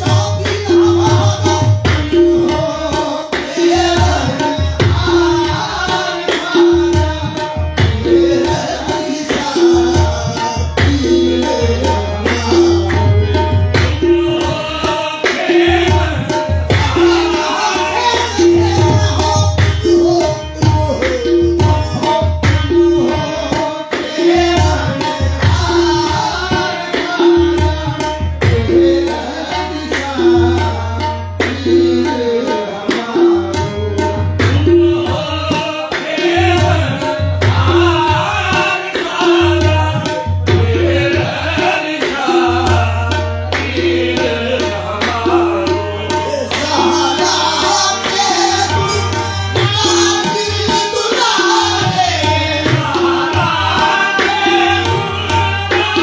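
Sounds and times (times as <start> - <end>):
lead and chorus voices singing: 0.0 - 21.0, 22.8 - 56.0
harmoniums: 0.0 - 56.0
tabla rhythm: 0.0 - 56.0.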